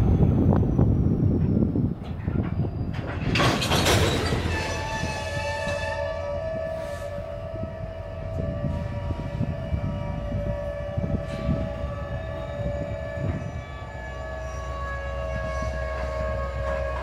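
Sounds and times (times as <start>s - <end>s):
low train rumble: 0.0s - 17.0s
train wheels squealing: 0.1s - 17.0s
train cars clanking: 0.3s - 17.0s.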